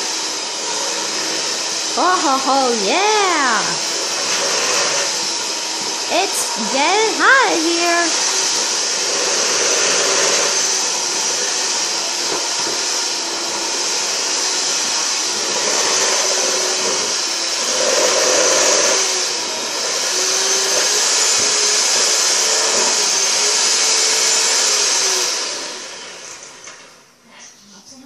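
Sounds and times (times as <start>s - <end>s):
electric mixer churning dough: 0.0s - 27.0s.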